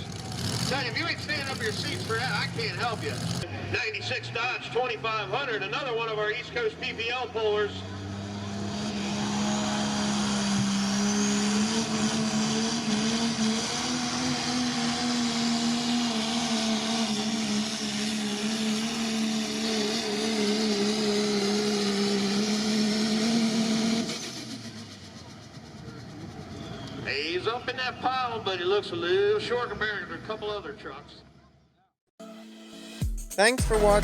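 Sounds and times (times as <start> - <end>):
diesel truck engine running hard: 0.0 - 30.3.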